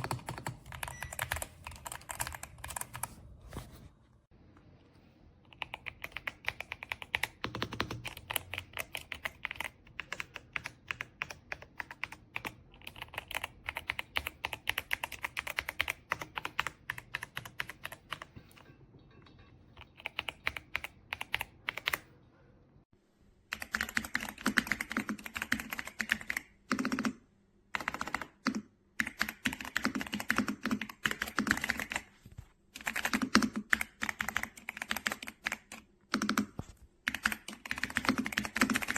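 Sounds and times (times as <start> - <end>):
mechanical keyboard typing: 0.0 - 3.1, 5.5 - 18.4, 19.8 - 22.1, 23.5 - 27.2, 27.8 - 32.1, 32.8 - 38.9.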